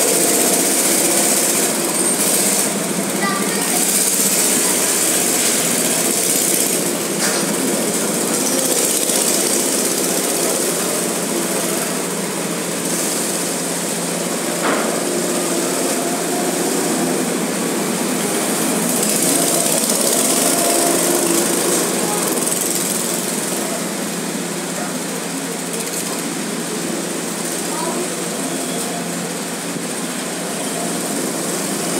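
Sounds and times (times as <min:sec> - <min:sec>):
go-kart engines buzzing: 0:00.0 - 0:31.9.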